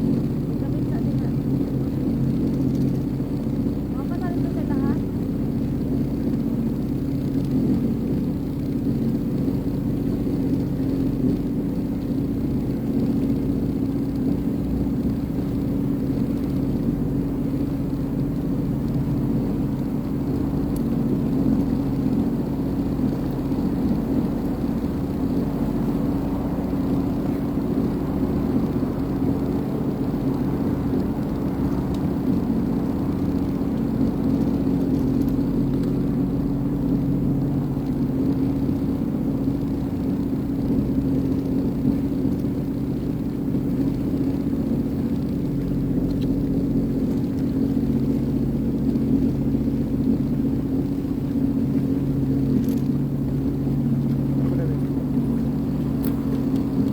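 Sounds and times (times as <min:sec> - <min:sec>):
watercraft engine running: 0:00.0 - 0:56.9.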